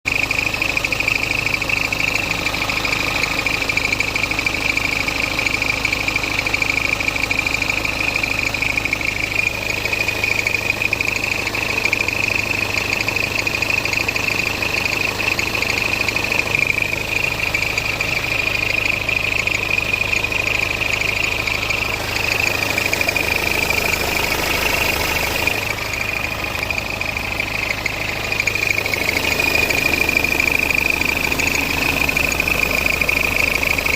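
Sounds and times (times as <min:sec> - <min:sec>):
diesel car engine idling: 0:00.0 - 0:33.9.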